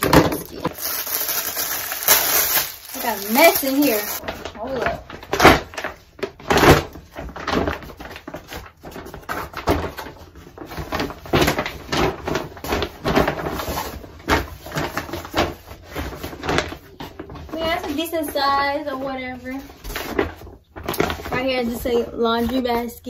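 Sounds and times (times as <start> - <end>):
packaging rustling and crinkling: 0.0 - 22.7.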